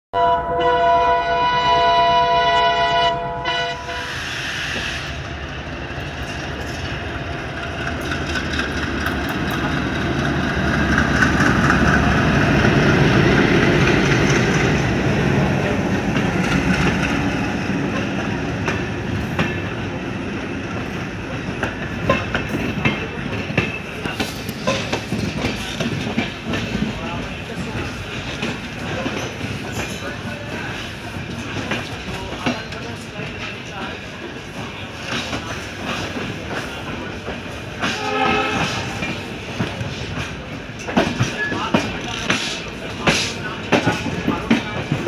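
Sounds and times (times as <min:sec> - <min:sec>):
diesel locomotive engine rumble: 0:00.2 - 0:45.0
train wheels clicking over rail joints: 0:04.4 - 0:45.0.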